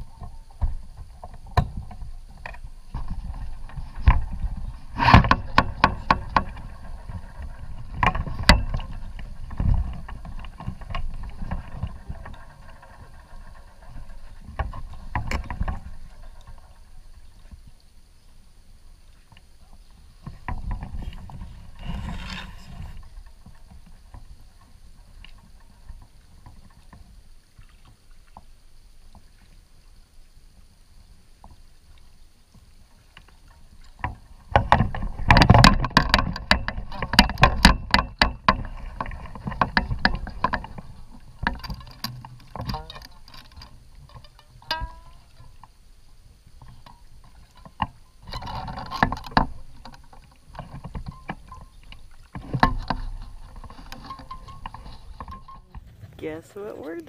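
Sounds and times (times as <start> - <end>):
paddle knocking: 0.0 - 17.8, 19.1 - 28.5, 31.4 - 57.0
kayak paddle splashing: 0.0 - 57.0
low water sounds: 0.0 - 57.0.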